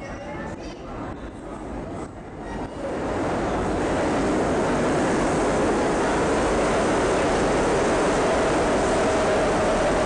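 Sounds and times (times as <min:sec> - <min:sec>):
subway train rumble: 0:00.0 - 0:10.0.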